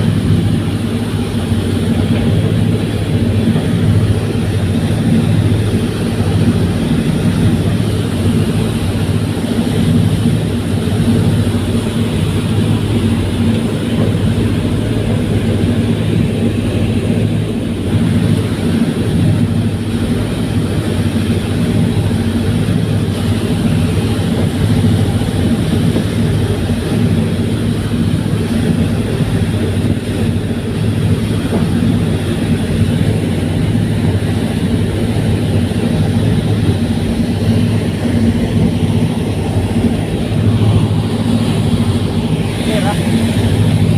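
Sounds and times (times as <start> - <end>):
constant rushing noise: 0.0 - 43.9
ferry engines droning: 0.0 - 43.9.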